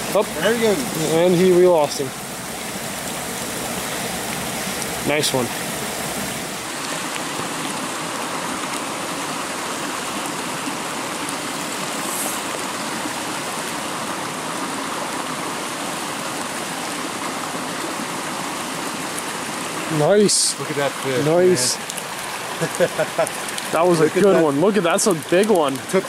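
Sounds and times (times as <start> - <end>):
stream running: 0.0 - 26.0.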